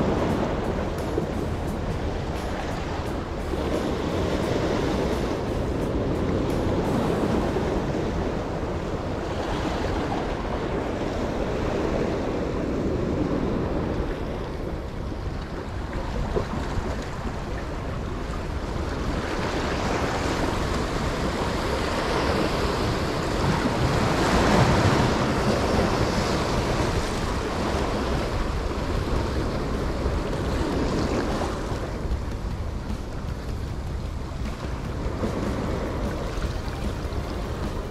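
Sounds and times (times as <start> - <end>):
surf breaking on rocks: 0.0 - 13.9, 19.0 - 37.9
wind buffeting microphone: 0.0 - 37.9.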